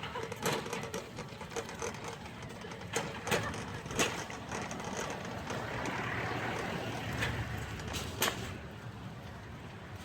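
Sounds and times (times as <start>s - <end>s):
shopping cart rattling: 0.0s - 8.6s.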